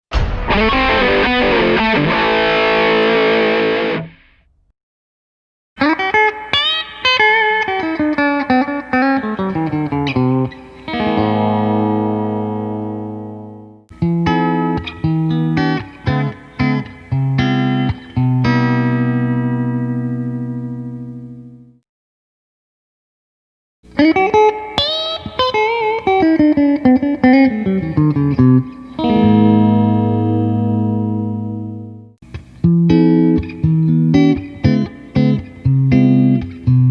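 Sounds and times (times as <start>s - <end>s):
electric guitar notes: 0.2s - 4.5s, 5.8s - 21.8s, 23.9s - 36.9s.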